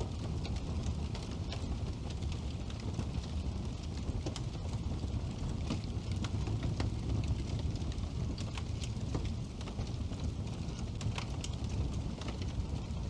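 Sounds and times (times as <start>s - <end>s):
flames rumbling: 0.0s - 13.0s
wood crackling and popping: 0.0s - 13.0s.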